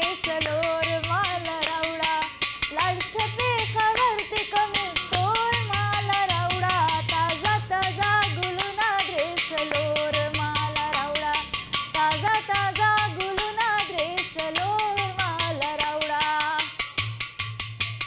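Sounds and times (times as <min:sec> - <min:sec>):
woman singing: 0:00.0 - 0:17.0
fast clicking beat: 0:00.0 - 0:18.0
hand drum beat: 0:00.0 - 0:18.0.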